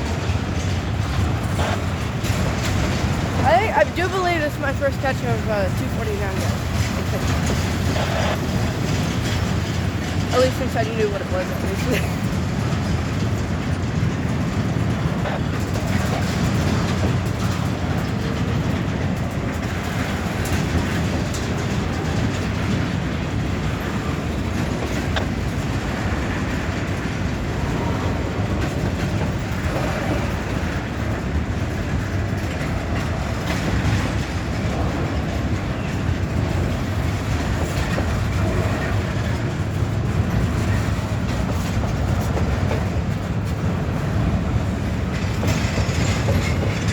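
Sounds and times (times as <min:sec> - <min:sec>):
freight train rumbling past: 0:00.0 - 0:46.9
wheels clacking over rail joints: 0:00.0 - 0:46.9.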